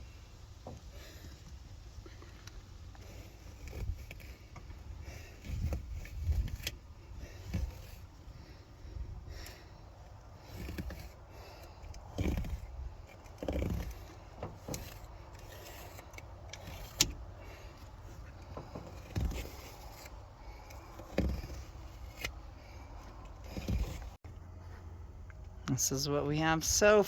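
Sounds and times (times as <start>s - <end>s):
soft thumps and scrapes: 0.6s - 25.5s.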